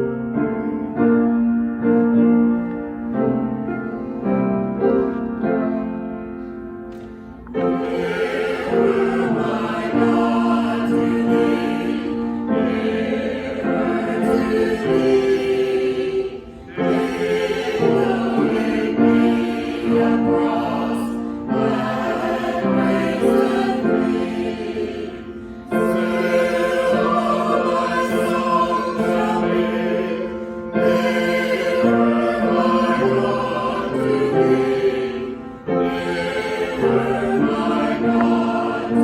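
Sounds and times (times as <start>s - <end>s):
choir singing with accompaniment: 0.0s - 39.0s.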